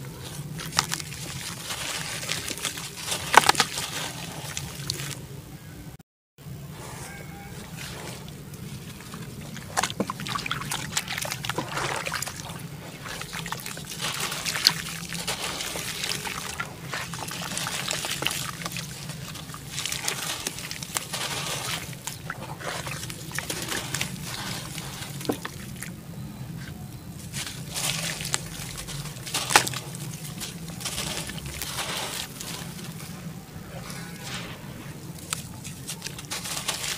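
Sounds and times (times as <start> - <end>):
water splashing and trickling: 0.0 - 5.4, 7.5 - 36.9
wet dirt crunching and squishing: 0.0 - 5.4, 6.7 - 36.9.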